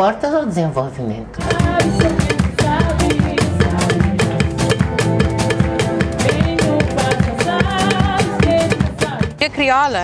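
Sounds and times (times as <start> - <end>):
drum kit playing: 1.4 - 9.9.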